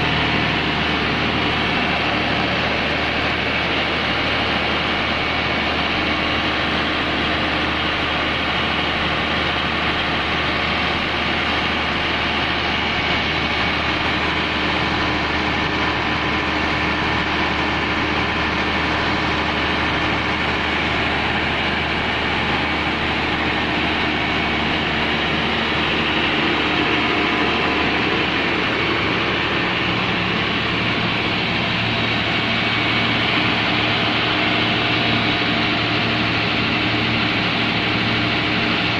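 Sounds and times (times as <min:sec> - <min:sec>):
diesel generator engine running: 0:00.0 - 0:38.9.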